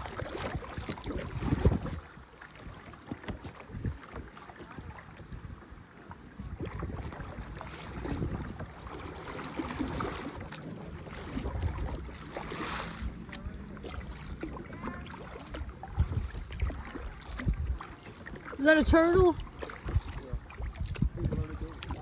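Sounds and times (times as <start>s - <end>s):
water swish: 0.0s - 22.0s
water washing against hull: 0.0s - 22.0s
wind on microphone: 0.0s - 22.0s.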